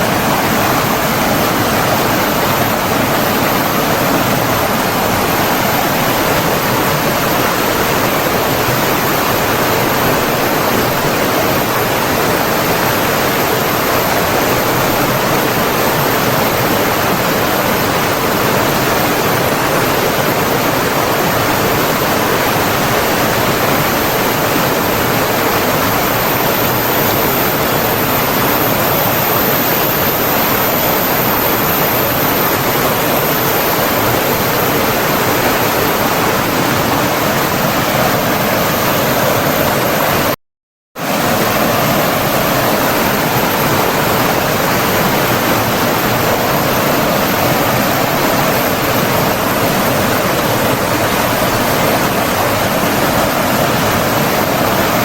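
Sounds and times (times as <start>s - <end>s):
water rushing: 0.0s - 40.4s, 41.0s - 55.0s.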